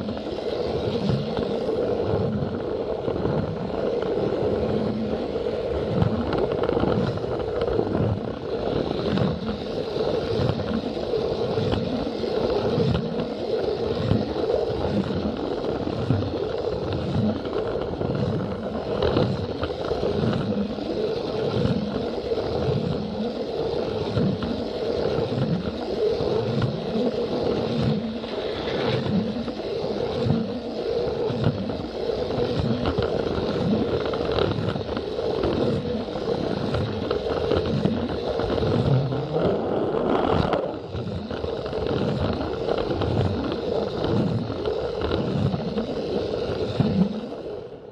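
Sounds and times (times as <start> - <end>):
toy train motor hum: 0.0 - 47.9.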